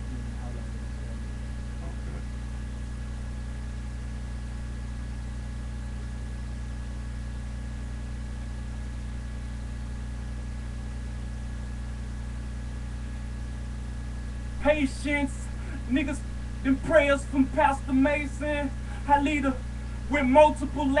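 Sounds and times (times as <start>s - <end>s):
steady low hum with hiss: 0.0s - 21.0s.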